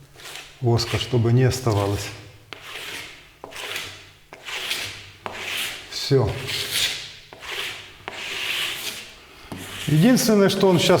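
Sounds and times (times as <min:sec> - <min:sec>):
rubber scraper on plaster: 0:00.1 - 0:11.0.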